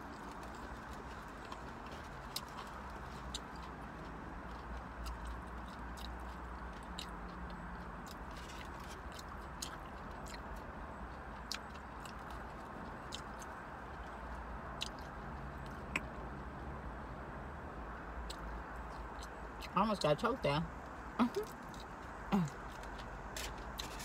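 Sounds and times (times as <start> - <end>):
chewing and biting crunchy food: 0.0 - 16.5, 18.0 - 19.8, 20.8 - 24.0.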